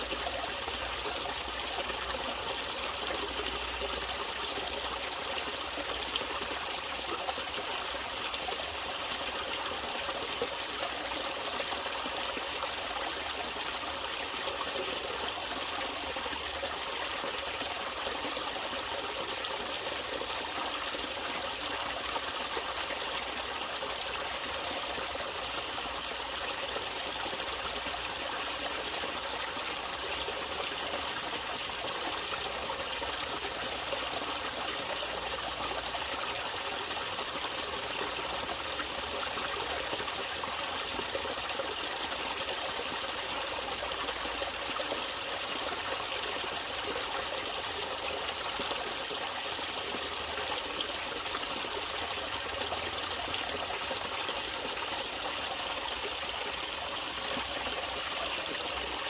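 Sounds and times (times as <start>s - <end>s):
stream trickling: 0.0s - 59.0s.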